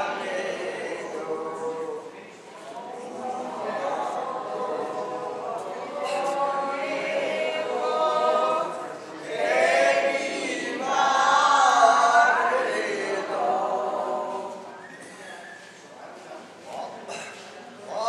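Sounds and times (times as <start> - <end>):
group singing unaccompanied: 0.0 - 14.9.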